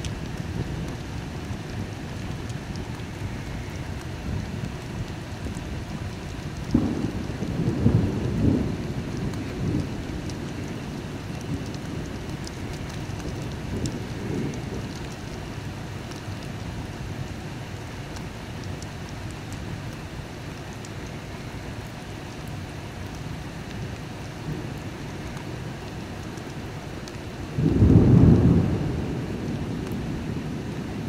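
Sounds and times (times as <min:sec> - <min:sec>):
thunder clap and rumble: 0:00.0 - 0:19.8, 0:24.4 - 0:31.0
steady rain: 0:00.0 - 0:31.0.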